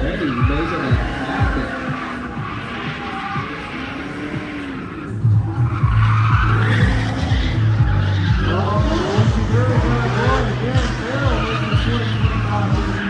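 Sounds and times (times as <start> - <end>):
car engine revving: 0.0 - 13.0
tires squealing: 0.0 - 13.0.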